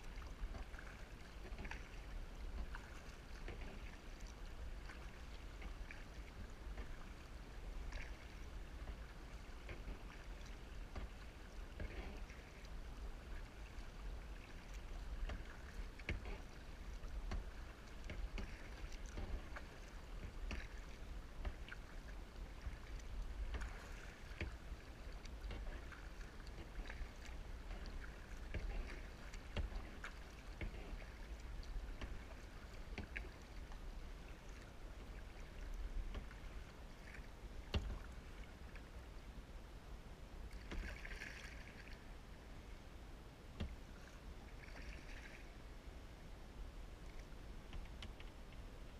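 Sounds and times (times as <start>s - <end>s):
paddle splashes and drips: 0.0s - 39.5s, 40.3s - 42.7s, 43.4s - 48.9s.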